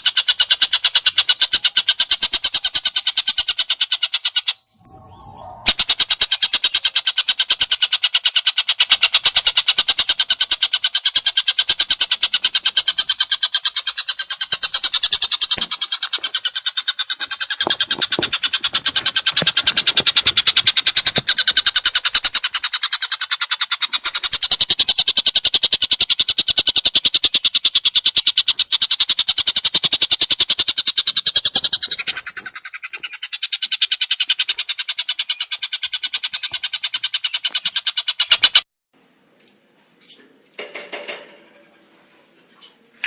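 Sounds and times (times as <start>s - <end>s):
songbird rapid trill: 0.0s - 38.7s.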